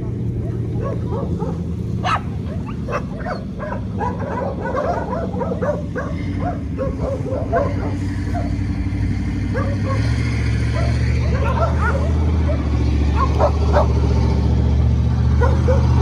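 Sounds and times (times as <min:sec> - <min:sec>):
dogs barking and yapping: 0:00.0 - 0:16.0.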